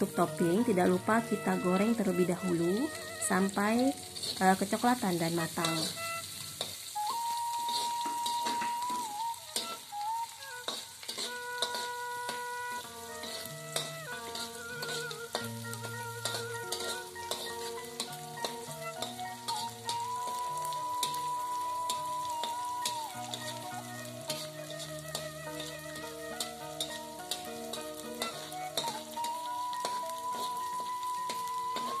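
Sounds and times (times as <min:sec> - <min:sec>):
fish sizzling in hot oil: 0:00.0 - 0:32.0
metal spatula scraping a wok: 0:00.0 - 0:32.0
soft background melody: 0:00.0 - 0:32.0.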